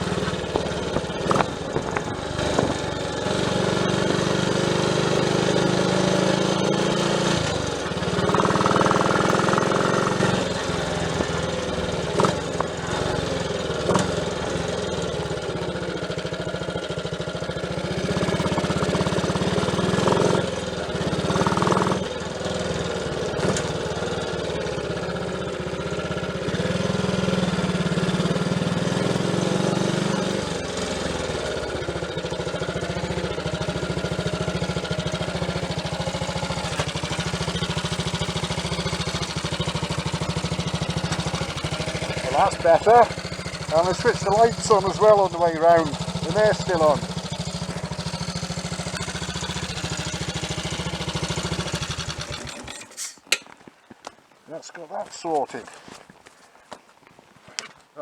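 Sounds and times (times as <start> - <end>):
motorcycle engine running: 0.0 - 53.6.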